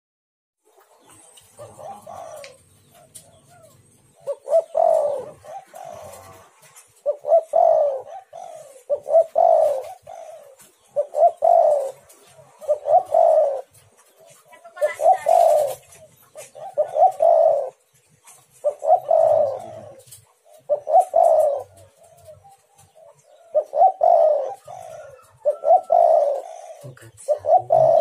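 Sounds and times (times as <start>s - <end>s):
dove cooing: 0.7s - 28.0s.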